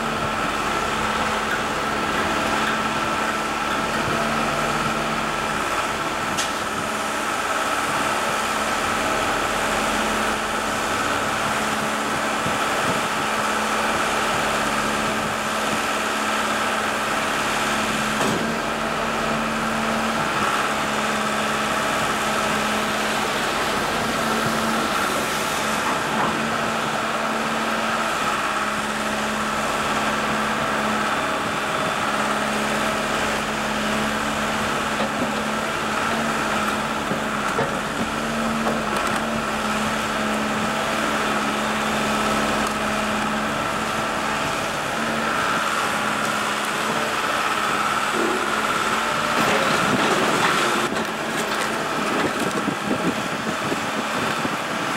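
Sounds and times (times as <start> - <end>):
crane engine running: 0.0 - 54.9.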